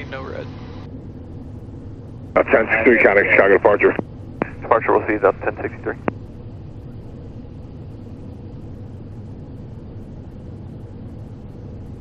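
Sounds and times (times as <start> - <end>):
jet cockpit engine rumble: 0.0 - 12.0.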